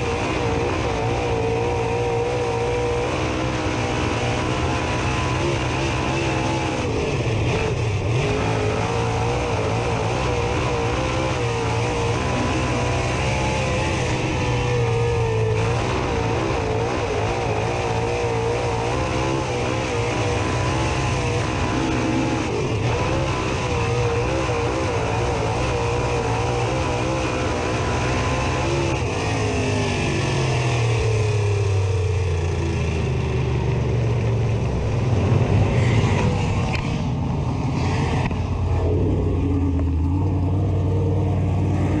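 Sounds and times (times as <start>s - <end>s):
race car engine revving: 0.0s - 42.0s
wind and tyre noise: 0.0s - 42.0s.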